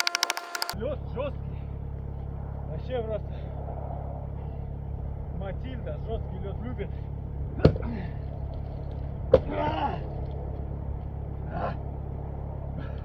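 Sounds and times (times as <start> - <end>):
low rumble: 0.8 - 13.0.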